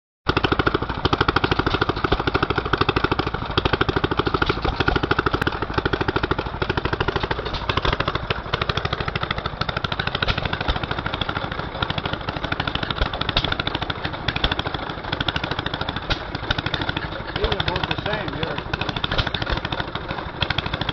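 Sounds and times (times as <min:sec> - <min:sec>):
gas engines exhaust popping: 0:00.3 - 0:20.9
mechanical clatter: 0:00.3 - 0:20.9.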